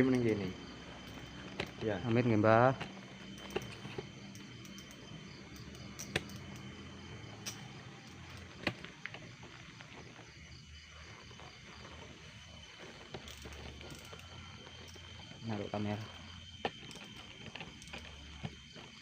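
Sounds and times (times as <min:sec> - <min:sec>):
crickets droning: 0:00.0 - 0:19.0.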